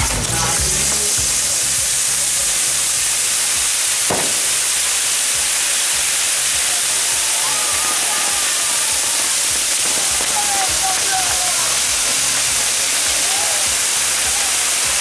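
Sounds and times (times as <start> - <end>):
firework hissing rush: 0.0 - 15.0.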